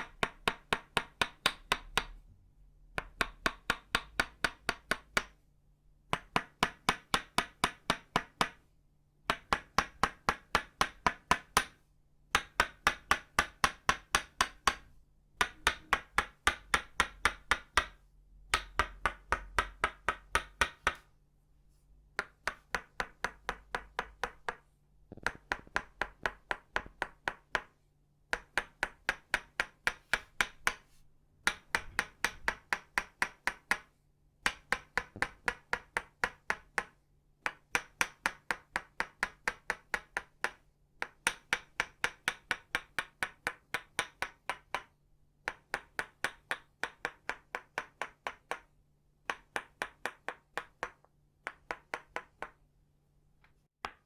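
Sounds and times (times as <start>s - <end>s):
wooden mallet tapping wooden peg: 0.0s - 2.3s, 2.9s - 5.4s, 9.3s - 21.1s, 22.2s - 52.6s.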